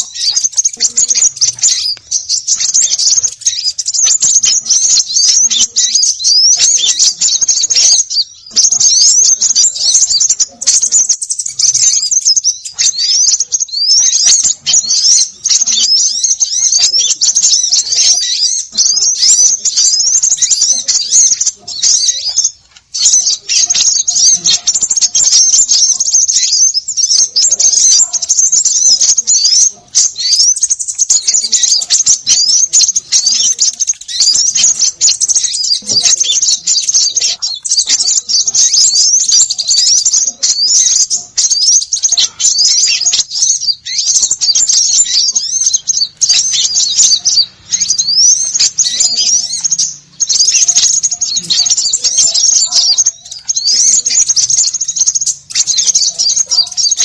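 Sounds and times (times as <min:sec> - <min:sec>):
flock of small birds chirping: 0:00.0 - 0:57.0.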